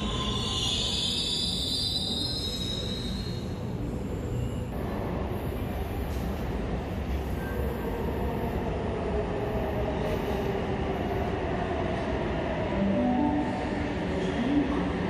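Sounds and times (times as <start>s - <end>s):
train rumbling into station: 0.0s - 15.0s.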